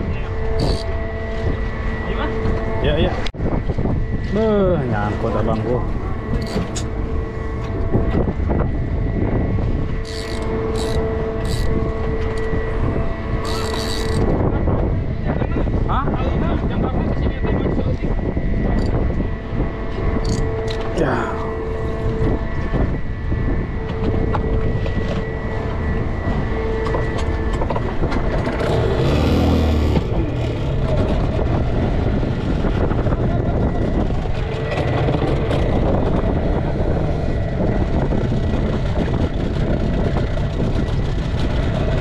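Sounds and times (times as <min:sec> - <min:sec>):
wind on microphone: 0:00.0 - 0:42.0
outboard motor running: 0:04.0 - 0:15.1, 0:18.6 - 0:42.0.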